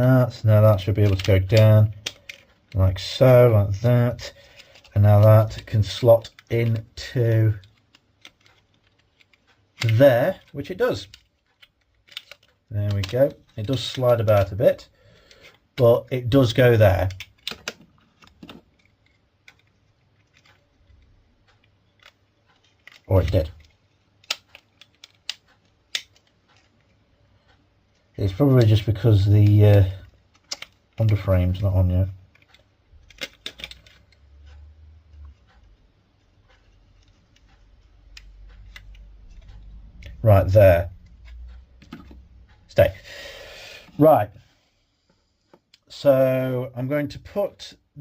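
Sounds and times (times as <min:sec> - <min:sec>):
small model parts clicking: 0:00.0 - 0:43.0.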